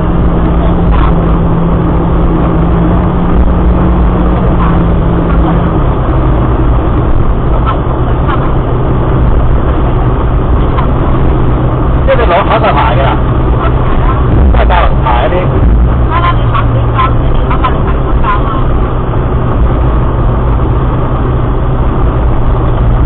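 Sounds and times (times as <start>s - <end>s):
car engine drone: 0.0s - 23.0s
road noise: 0.0s - 23.0s.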